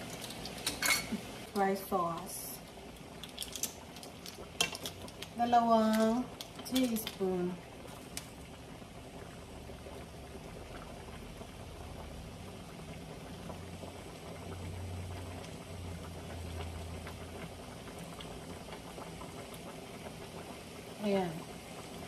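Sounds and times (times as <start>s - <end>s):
stew bubbling with small pops: 0.0s - 22.0s.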